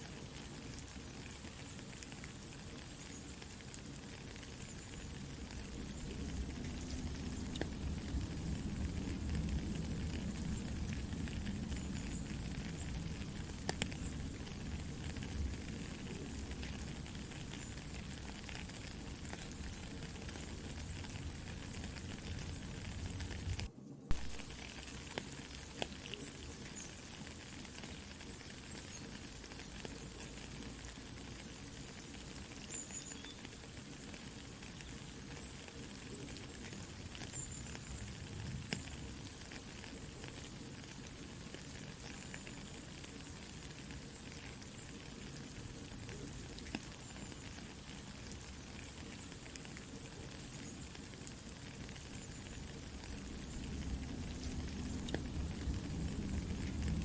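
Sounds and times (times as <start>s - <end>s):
campfire crackling: 0.0s - 57.0s
soft steady rain: 0.0s - 57.0s.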